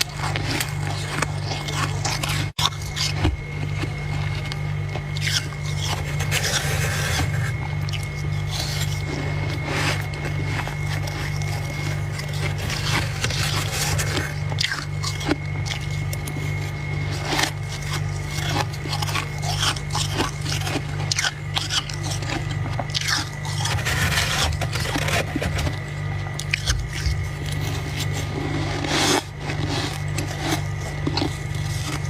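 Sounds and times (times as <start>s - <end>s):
frost being chewed: 0.0s - 32.0s
steady low hum: 0.0s - 32.0s.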